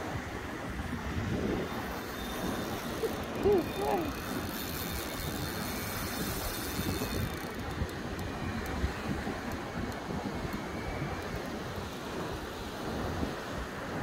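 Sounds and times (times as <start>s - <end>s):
surf washing: 0.0s - 14.0s
wind rumbling on microphone: 0.0s - 14.0s.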